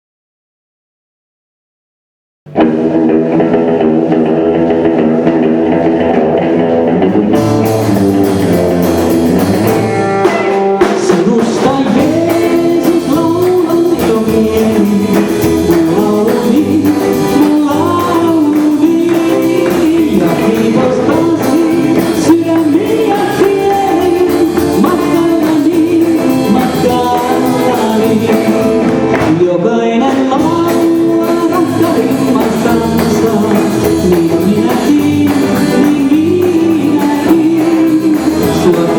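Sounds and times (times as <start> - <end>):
drums: 2.5 - 38.9
guitar: 2.5 - 38.9
live band playing gospel song: 2.5 - 38.9
person singing: 2.5 - 38.9.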